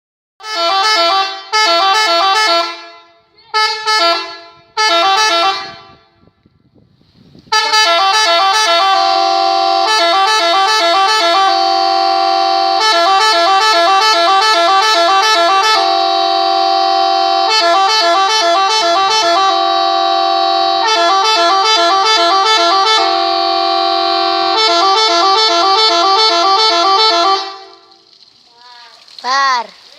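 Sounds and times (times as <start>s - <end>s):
musical air horn tune: 0.4s - 6.3s, 7.4s - 28.1s.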